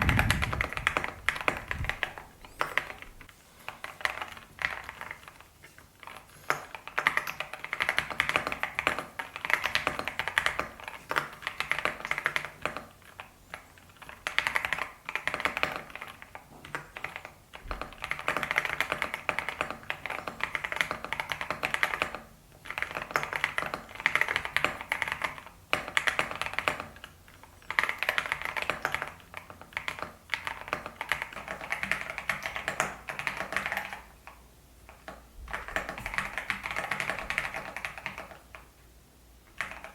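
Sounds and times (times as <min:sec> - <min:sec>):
mechanical keyboard typing: 0:00.0 - 0:38.7, 0:39.5 - 0:39.9.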